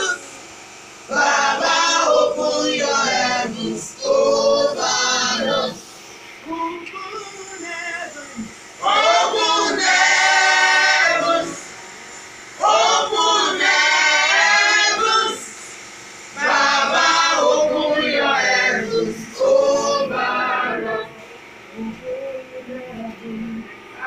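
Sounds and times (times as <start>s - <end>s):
group of voices singing: 0.0s - 0.4s, 1.0s - 11.8s, 12.6s - 15.7s, 16.3s - 24.0s.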